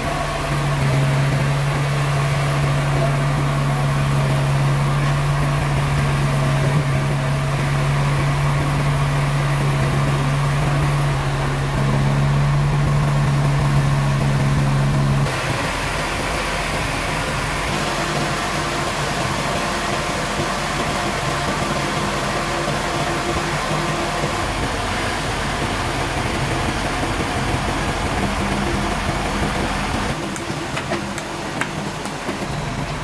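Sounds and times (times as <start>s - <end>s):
sawmill machinery humming: 0.0s - 33.0s.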